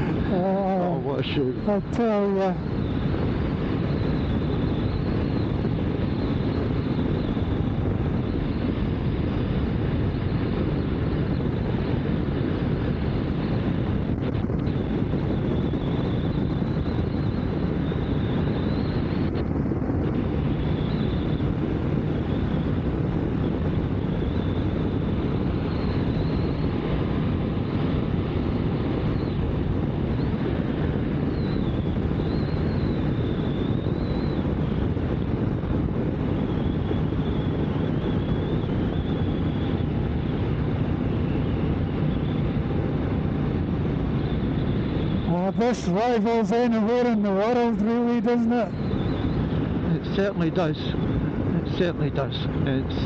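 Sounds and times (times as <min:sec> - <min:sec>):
motorcycle engine running steadily: 0:00.0 - 0:01.0, 0:01.6 - 0:53.0
wind rushing over microphone: 0:00.0 - 0:53.0.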